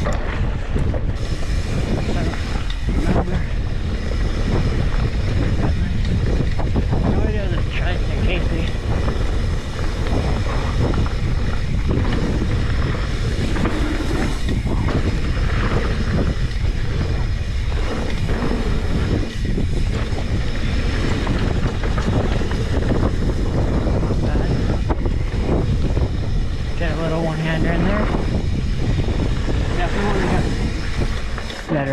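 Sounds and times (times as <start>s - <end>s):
bike knocks and rattles: 0.0s - 31.9s
bike tyre rumble: 0.0s - 31.9s
wind buffeting microphone: 0.0s - 31.9s.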